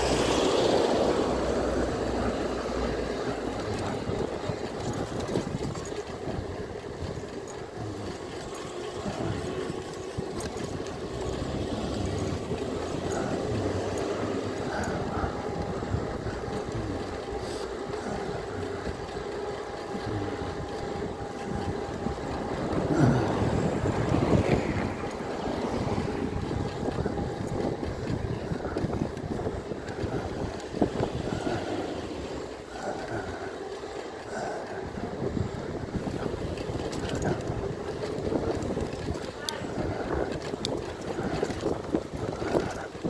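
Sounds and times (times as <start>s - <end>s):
car passing: 0.0s - 6.0s, 7.8s - 42.9s
road noise: 0.0s - 43.0s
wind rushing over microphone: 0.0s - 43.0s.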